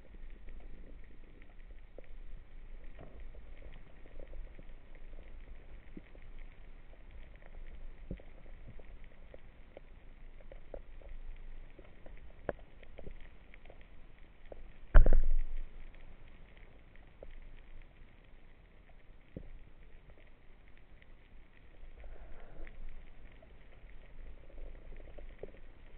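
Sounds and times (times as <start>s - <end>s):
faint crackling clicks: 0.0s - 25.9s
underwater low rumble: 0.0s - 25.9s.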